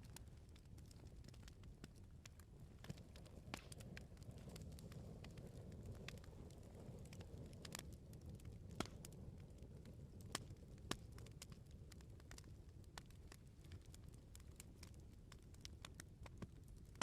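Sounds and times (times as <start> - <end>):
bonfire flames rumbling: 0.0 - 17.0
firewood crackling and popping: 0.0 - 17.0.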